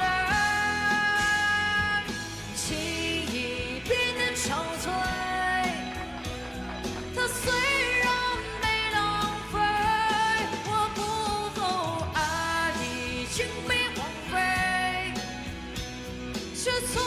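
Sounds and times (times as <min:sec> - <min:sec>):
backing track music: 0:00.0 - 0:17.0
woman singing a pop ballad: 0:00.0 - 0:17.0.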